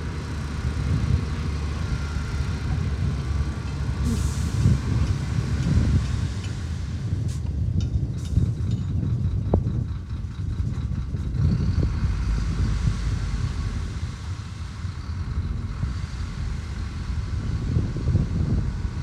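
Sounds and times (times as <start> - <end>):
diesel machinery engine rumble: 0.0 - 19.0.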